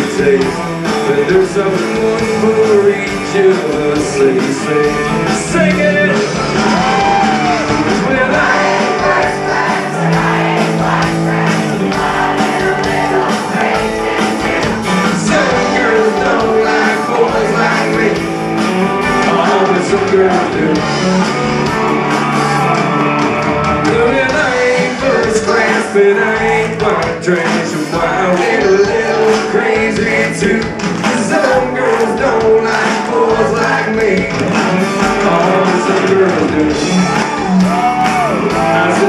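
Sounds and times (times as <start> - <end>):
man singing: 0.0 - 10.2, 11.6 - 21.1, 23.7 - 37.4, 38.0 - 39.0
live rock band playing: 0.0 - 39.0.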